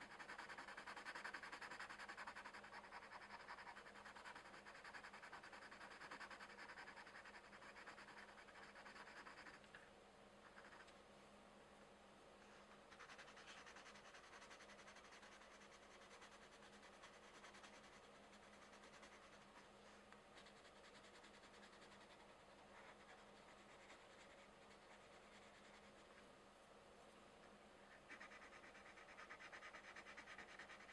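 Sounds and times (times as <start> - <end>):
pencils scratching on paper: 0.0 - 9.7, 10.4 - 10.9, 12.9 - 19.7, 20.3 - 26.2, 27.9 - 30.9
low steady hum: 0.0 - 30.9.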